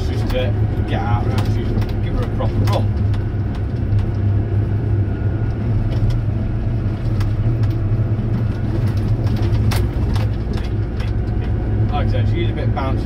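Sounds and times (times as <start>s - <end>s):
light rattles and knocks: 0.0s - 13.0s
tractor engine droning: 0.0s - 13.0s.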